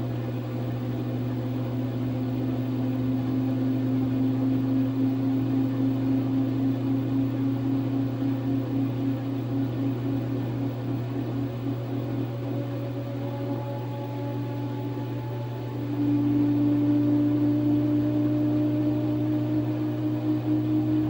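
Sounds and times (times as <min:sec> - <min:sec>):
washing machine spin cycle: 0:00.0 - 0:21.0.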